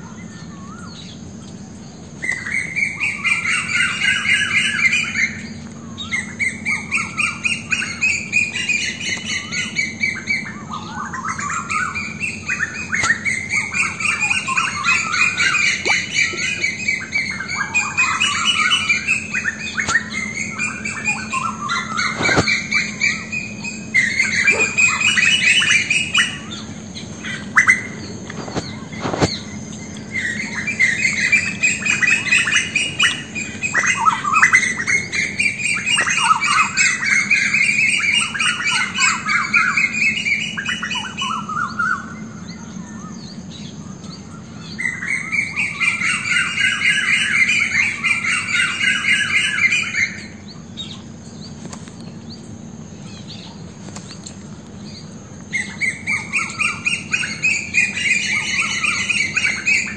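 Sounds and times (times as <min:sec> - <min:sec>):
birds calling and chattering: 0:00.0 - 0:59.9.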